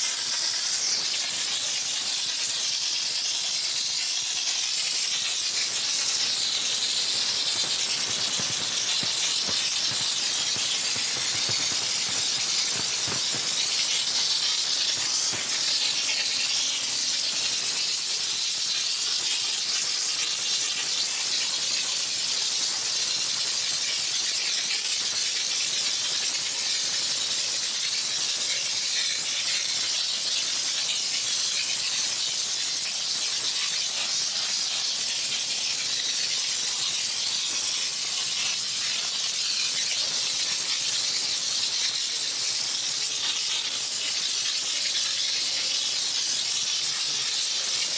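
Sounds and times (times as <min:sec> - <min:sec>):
steam nozzle hissing: 0:00.0 - 0:47.9.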